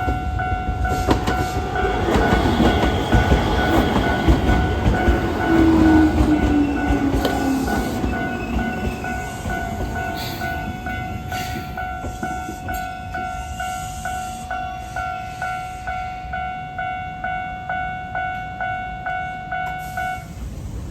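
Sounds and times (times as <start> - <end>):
level-crossing alarm chime: 0.0 - 20.4
electric train pulling in: 0.0 - 20.9.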